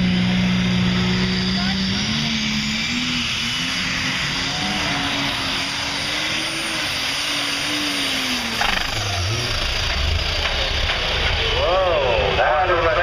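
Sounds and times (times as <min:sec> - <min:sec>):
tractor engine revving high: 0:00.0 - 0:13.0.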